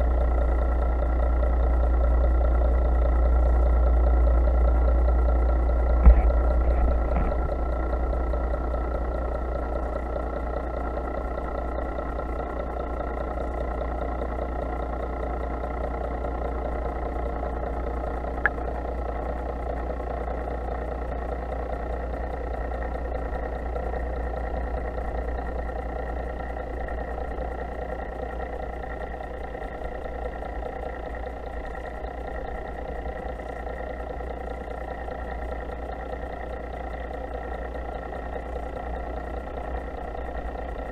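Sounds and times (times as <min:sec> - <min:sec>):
boat engine hum underwater: 0:00.0 - 0:40.9.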